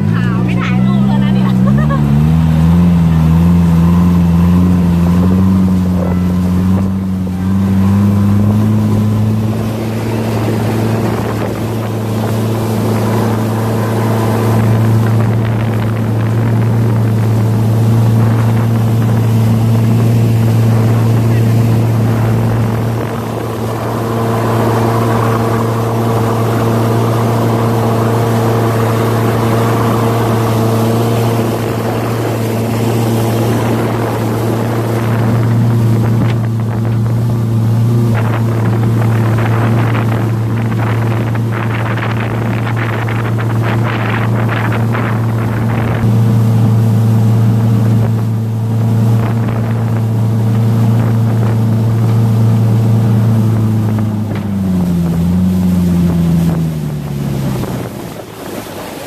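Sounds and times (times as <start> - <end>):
motorboat engine droning: 0.0 - 59.0
uneven crackling rush: 0.0 - 59.0
wind on microphone: 0.0 - 59.0.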